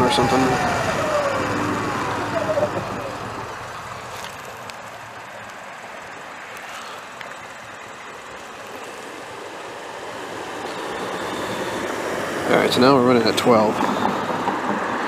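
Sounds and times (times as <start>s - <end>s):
road traffic: 0.0s - 15.0s
wind: 0.0s - 15.0s.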